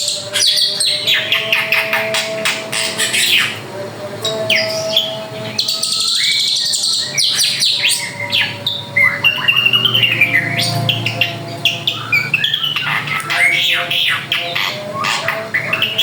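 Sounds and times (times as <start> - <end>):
drongo singing: 0.0 - 16.0.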